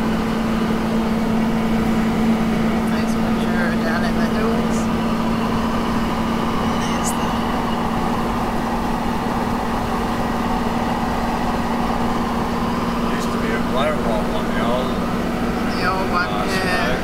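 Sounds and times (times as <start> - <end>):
engine hum inside car: 0.0 - 17.0
road and wind noise: 0.0 - 17.0.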